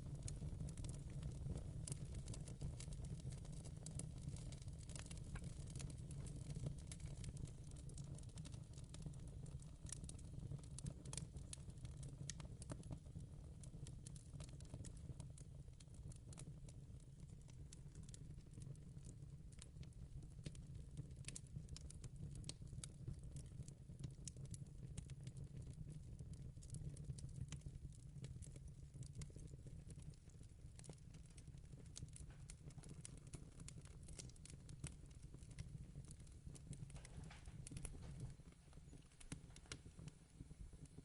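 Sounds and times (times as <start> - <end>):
low fire rumble: 0.0 - 41.0
wood fire crackling: 0.0 - 41.0.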